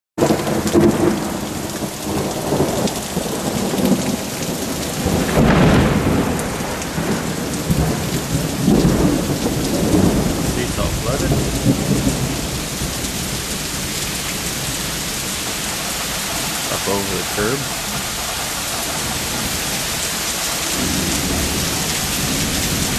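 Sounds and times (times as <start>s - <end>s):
heavy rain pouring: 0.2s - 22.9s
thunder rumbling: 0.2s - 22.9s.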